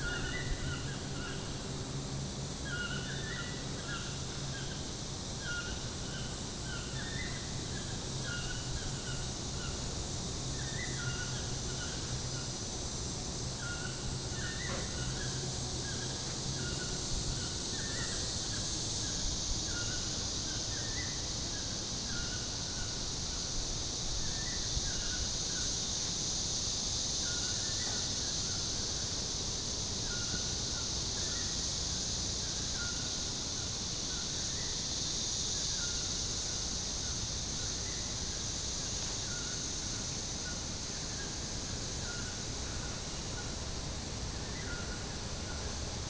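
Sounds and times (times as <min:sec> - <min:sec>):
high-pitched insect drone: 0:00.0 - 0:46.0.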